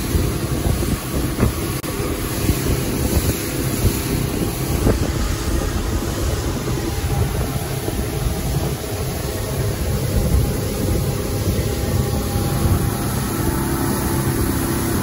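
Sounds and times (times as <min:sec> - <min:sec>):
hull on water: 0:00.0 - 0:15.0
motorboat engine: 0:00.0 - 0:15.0
wind buffeting microphone: 0:00.0 - 0:15.0.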